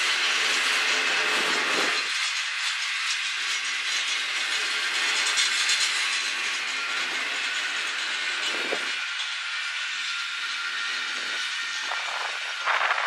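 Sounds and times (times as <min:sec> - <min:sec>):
steel wheels hissing on rails: 0:00.0 - 0:13.0.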